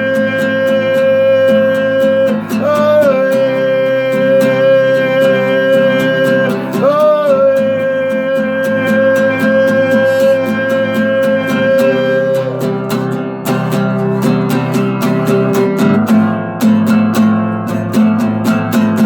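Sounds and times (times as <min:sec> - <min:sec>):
acoustic guitar strumming: 0:00.0 - 0:19.0
sliding lead guitar notes: 0:00.0 - 0:19.0.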